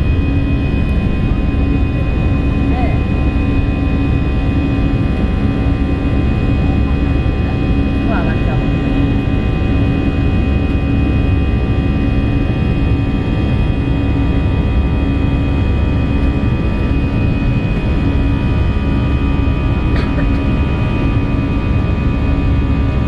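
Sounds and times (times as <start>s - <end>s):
constant whining tones: 0.0s - 23.0s
jet engines droning: 0.0s - 23.0s
pulsing low hum: 0.0s - 23.0s.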